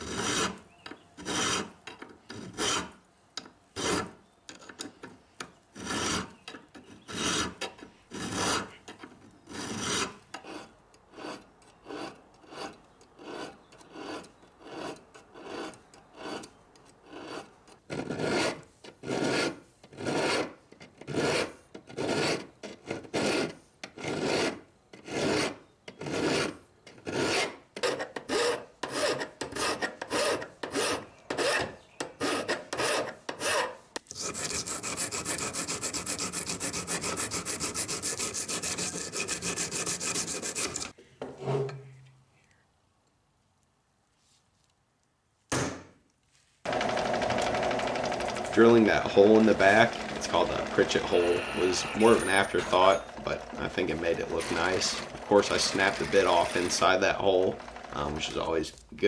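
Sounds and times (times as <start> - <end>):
file scraping on steel: 0.0 - 0.6, 1.2 - 3.0, 3.8 - 4.2, 5.8 - 22.5, 23.1 - 40.9, 46.7 - 58.6.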